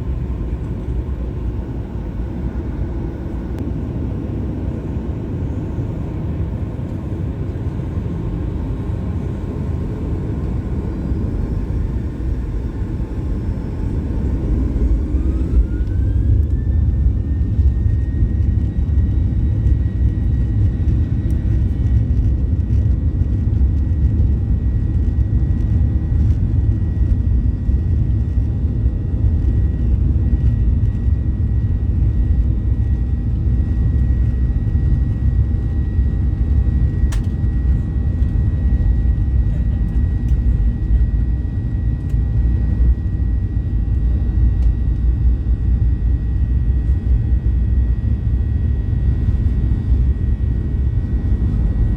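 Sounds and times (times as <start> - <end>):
jet engines heard from cabin: 0.0 - 51.9.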